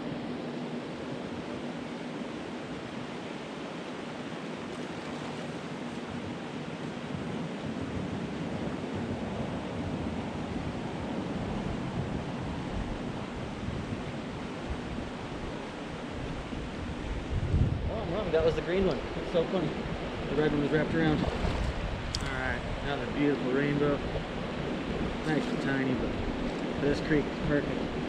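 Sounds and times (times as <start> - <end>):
creek water rushing: 0.0 - 28.0
wind rumble on microphone: 0.0 - 28.0.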